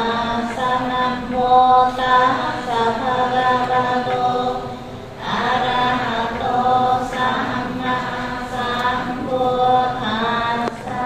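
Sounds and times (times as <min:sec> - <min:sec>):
group chanting in unison: 0:00.0 - 0:11.0.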